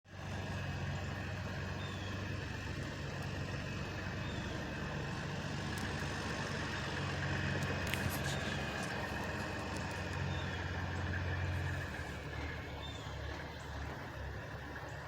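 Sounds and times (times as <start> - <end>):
truck engine idling: 0.1 - 15.0.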